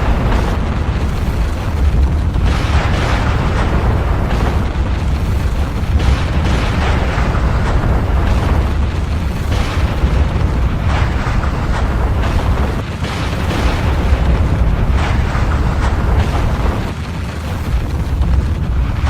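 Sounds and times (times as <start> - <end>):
crackling volcanic blasts: 0.0 - 19.0
volcano deep rumble: 0.0 - 19.0.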